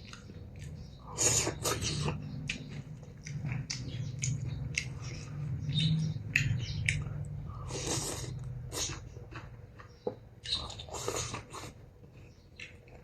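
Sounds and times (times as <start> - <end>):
close chewing with mouth smacks: 0.0 - 13.0
low steady hum: 0.0 - 13.0.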